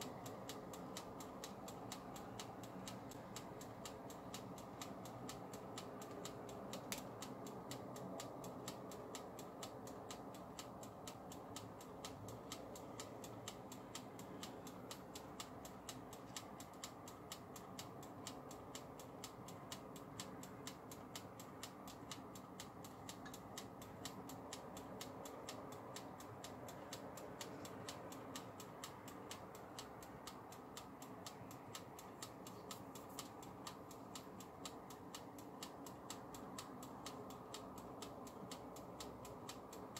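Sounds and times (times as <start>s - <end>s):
mechanical timer dial ticking: 0.0s - 39.9s.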